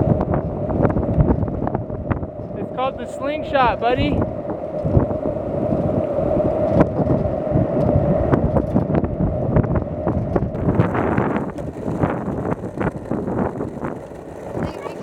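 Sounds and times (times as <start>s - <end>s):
skateboard wheels rolling on pavement: 0.0s - 15.0s
wind buffeting microphone: 0.0s - 15.0s.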